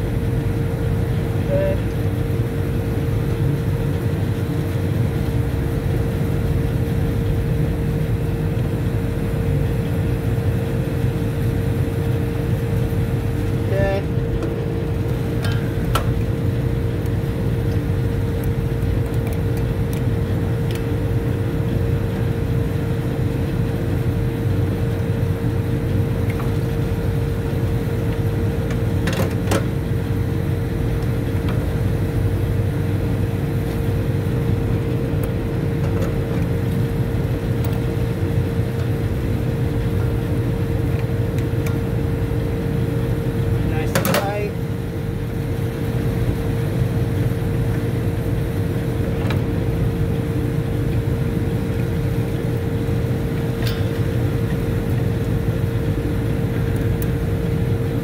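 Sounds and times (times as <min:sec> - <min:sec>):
machinery hum with whine: 0:00.0 - 0:58.0.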